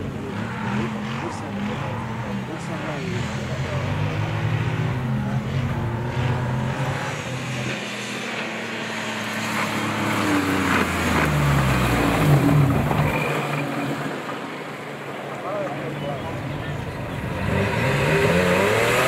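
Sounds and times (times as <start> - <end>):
engine revving: 0.0 - 14.4, 15.5 - 19.0.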